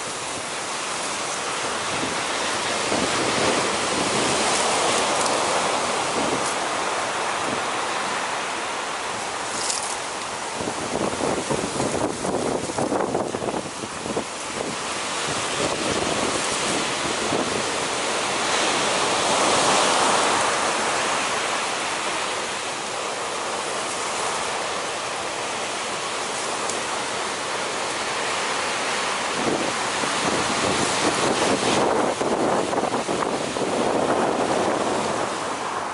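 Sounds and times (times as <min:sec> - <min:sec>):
ocean surf breaking: 0:00.0 - 0:35.9
wind buffeting microphone: 0:01.2 - 0:08.0, 0:08.9 - 0:23.0, 0:23.7 - 0:35.9.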